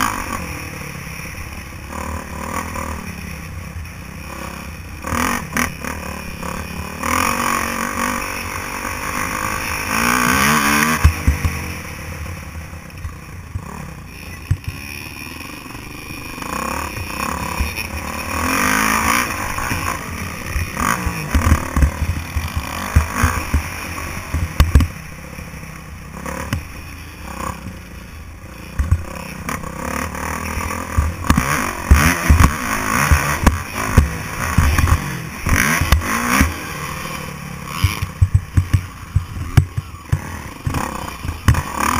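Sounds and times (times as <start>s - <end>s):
motocross engine revving: 0.0s - 41.9s.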